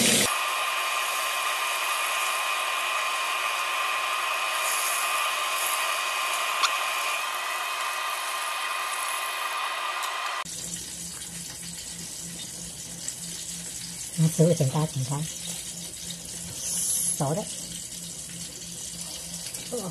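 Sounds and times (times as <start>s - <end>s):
chicken deep-frying in hot oil: 0.0s - 19.9s.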